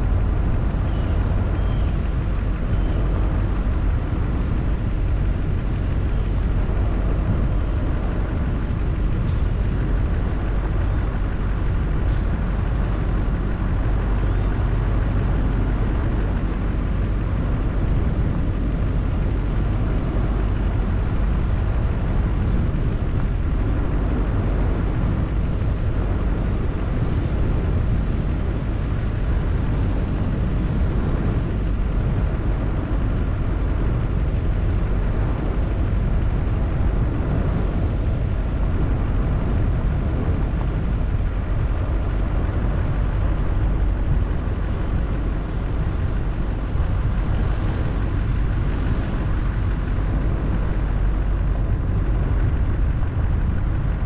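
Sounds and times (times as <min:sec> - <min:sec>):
vehicle driving on paved road: 0:00.0 - 0:54.0.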